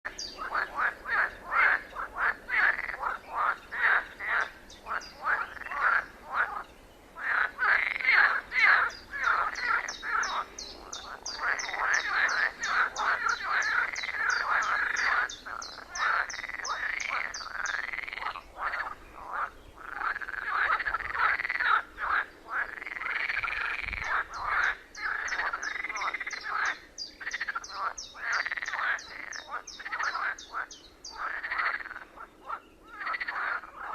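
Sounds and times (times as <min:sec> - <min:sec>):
frogs croaking: 0:00.0 - 0:33.9.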